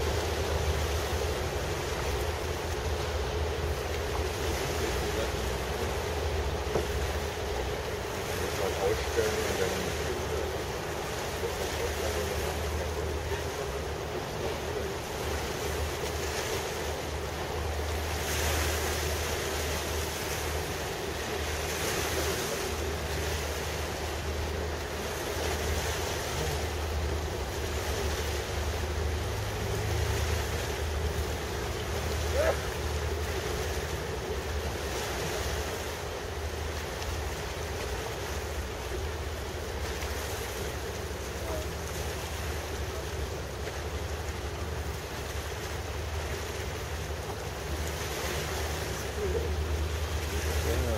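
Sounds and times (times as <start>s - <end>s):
boat engines rumbling: 0.0s - 50.9s
river water: 0.0s - 50.9s.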